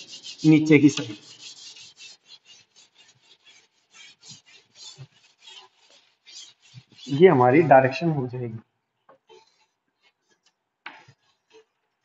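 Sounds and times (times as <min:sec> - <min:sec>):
chalk rubbing on blackboard: 0:00.0 - 0:08.0, 0:09.2 - 0:11.8.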